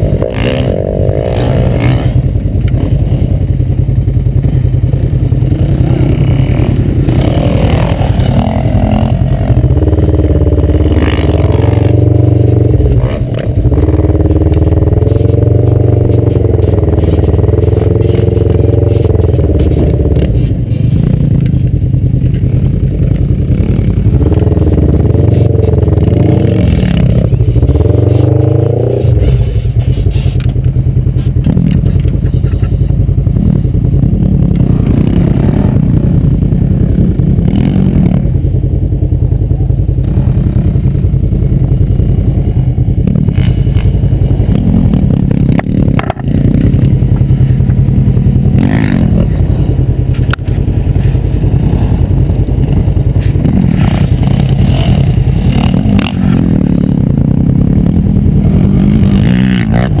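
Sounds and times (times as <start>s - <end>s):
off-road vehicle engine idling: 0.0s - 60.0s.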